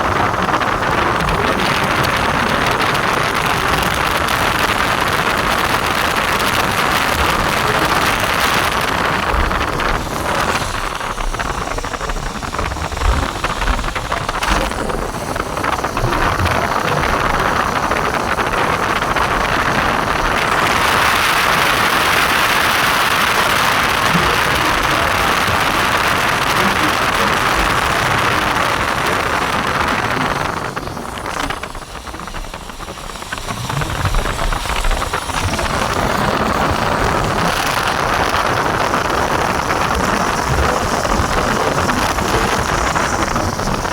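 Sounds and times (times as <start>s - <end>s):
heavy rain hissing: 0.0s - 43.9s.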